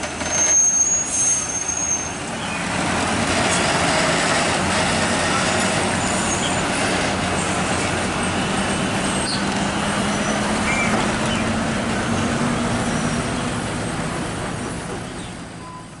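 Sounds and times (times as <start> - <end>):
road noise: 0.0 - 16.0
diesel truck engine running: 2.2 - 16.0.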